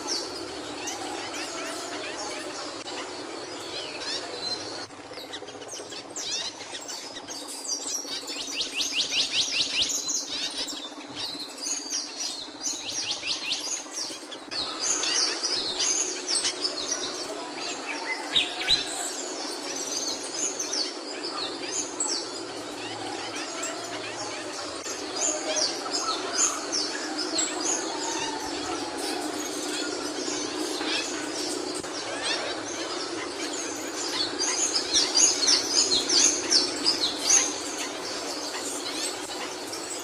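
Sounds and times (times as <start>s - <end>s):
songbird chirping and trilling: 0.0s - 40.0s
steady background hiss: 0.0s - 40.0s.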